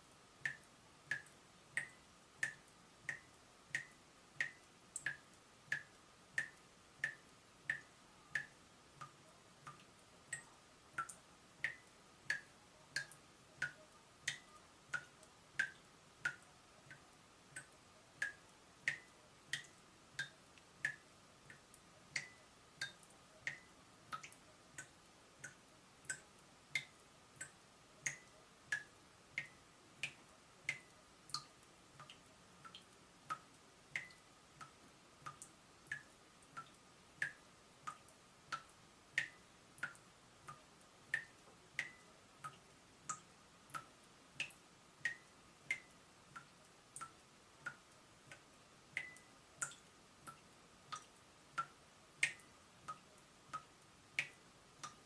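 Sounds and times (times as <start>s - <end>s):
water dripping from tap: 0.4s - 55.0s.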